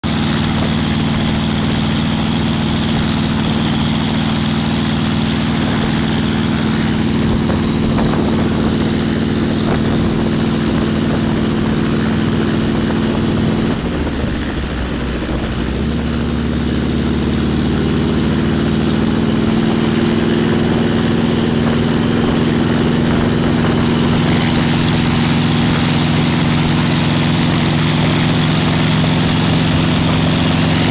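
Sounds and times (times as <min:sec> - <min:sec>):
helicopter engine and rotor: 0:00.0 - 0:30.9.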